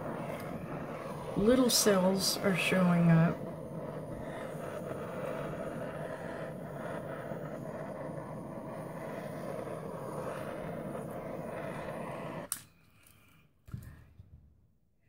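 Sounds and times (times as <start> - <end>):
heat gun fan blowing: 0.0 - 12.7.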